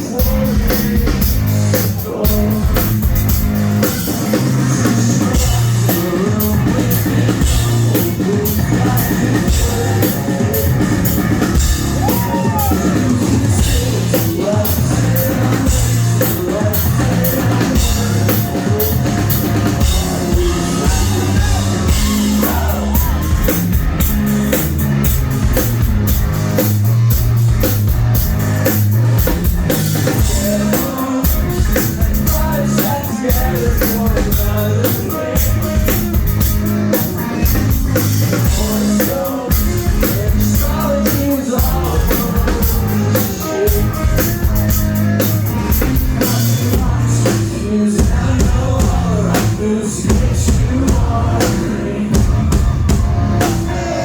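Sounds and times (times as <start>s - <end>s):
person singing: 0.0s - 24.8s, 28.7s - 54.0s
drum kit: 0.0s - 54.0s
live rock band playing: 0.0s - 54.0s.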